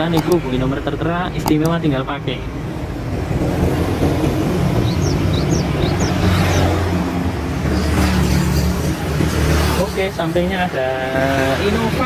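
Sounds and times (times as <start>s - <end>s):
low rumble of motor vehicles: 0.0s - 12.0s.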